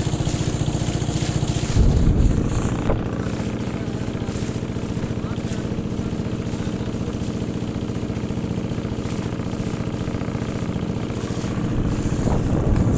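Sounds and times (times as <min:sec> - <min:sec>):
motorboat engine throbbing: 0:00.0 - 0:12.9.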